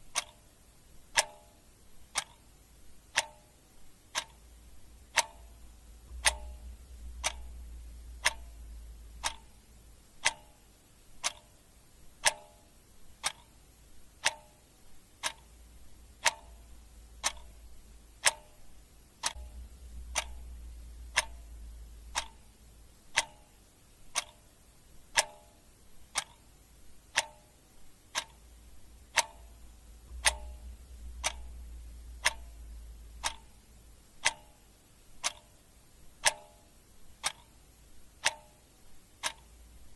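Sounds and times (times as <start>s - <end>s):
clock ticking: 0.0s - 39.9s
faint low rumble: 0.0s - 39.9s.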